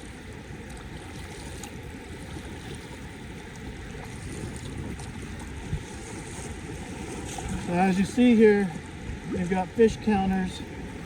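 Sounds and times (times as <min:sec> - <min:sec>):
fast-running river water: 0:00.0 - 0:11.0.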